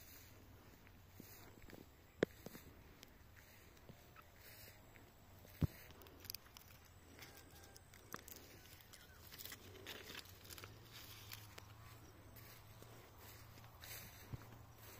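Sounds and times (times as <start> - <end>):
leaves and twigs rustling: 0.6 - 14.9.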